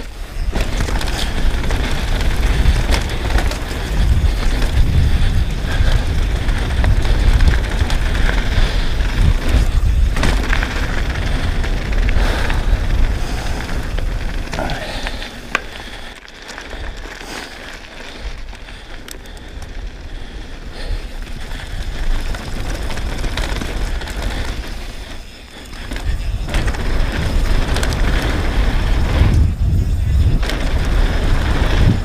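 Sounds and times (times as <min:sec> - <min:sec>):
bike rattles and knocks: 0:00.0 - 0:32.0
bike tyre and trail noise: 0:00.0 - 0:32.0
wind rumble on microphone: 0:00.0 - 0:32.0.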